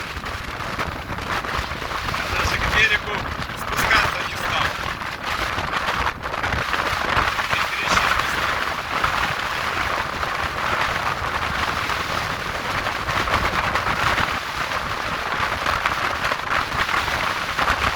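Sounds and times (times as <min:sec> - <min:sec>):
sea waves breaking: 0:00.0 - 0:16.0
wind buffeting microphone: 0:00.0 - 0:17.9.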